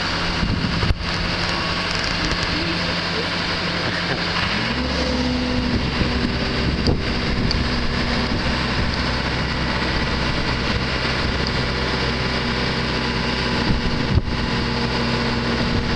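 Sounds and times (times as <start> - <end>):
hoist engine droning: 0.0 - 15.9.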